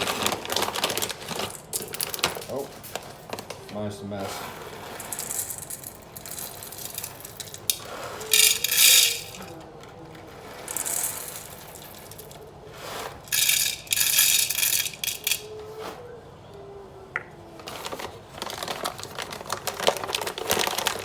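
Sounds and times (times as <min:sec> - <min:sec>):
coffee beans rattling: 0:00.0 - 0:15.6, 0:17.7 - 0:21.0.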